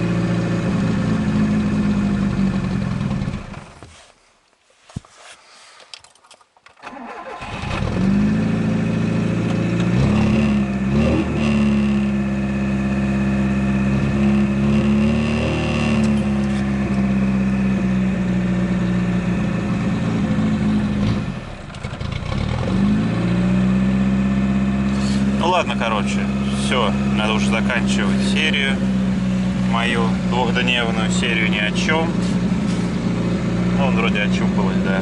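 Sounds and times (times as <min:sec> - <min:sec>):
car engine starting unevenly: 0:00.0 - 0:03.9, 0:06.8 - 0:35.0.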